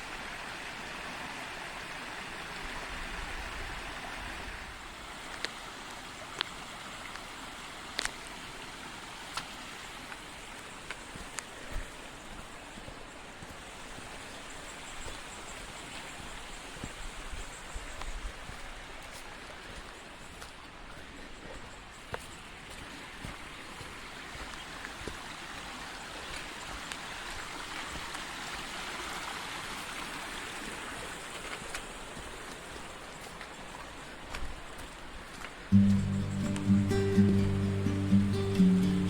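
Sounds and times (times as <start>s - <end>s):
stream water rushing: 0.0s - 17.4s, 22.6s - 39.0s.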